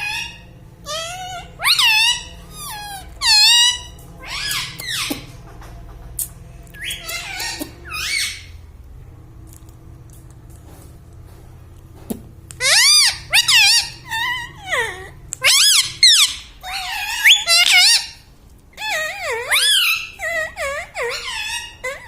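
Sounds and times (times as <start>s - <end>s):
parrot squawking: 0.0s - 8.6s, 12.5s - 22.0s.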